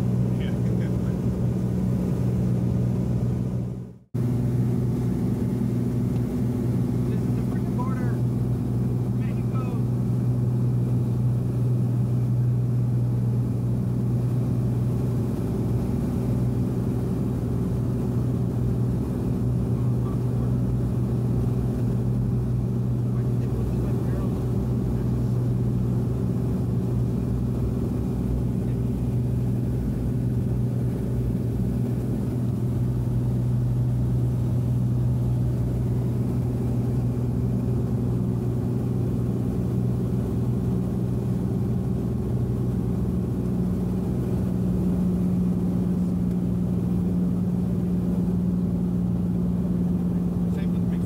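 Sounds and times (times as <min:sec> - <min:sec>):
aircraft engine and propeller droning: 0:00.0 - 0:51.0.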